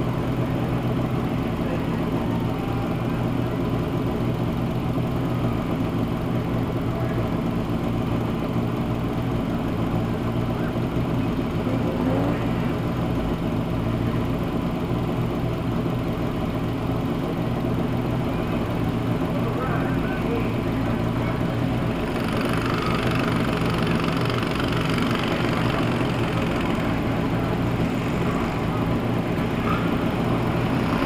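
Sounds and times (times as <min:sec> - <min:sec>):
race car engine idling: 0:00.0 - 0:31.0.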